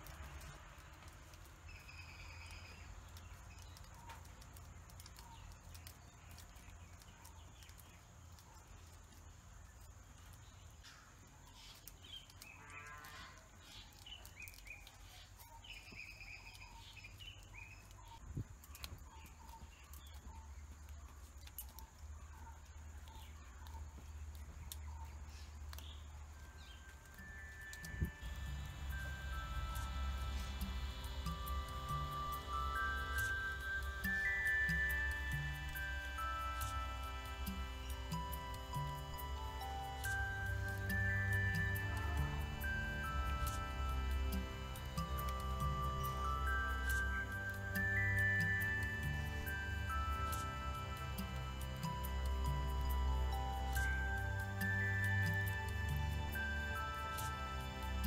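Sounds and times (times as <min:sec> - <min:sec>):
birds chirping and trilling: 0:00.4 - 0:58.0.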